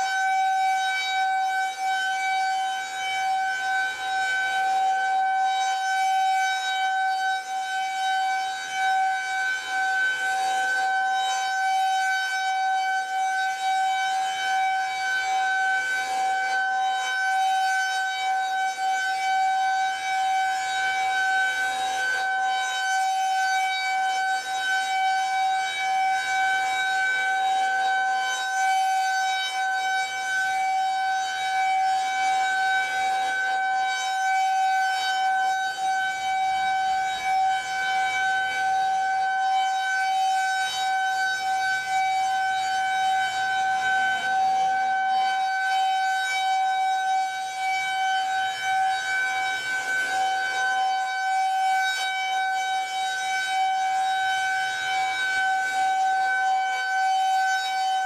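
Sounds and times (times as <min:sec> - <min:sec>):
rotating warning siren steady tone: 0:00.0 - 0:58.0.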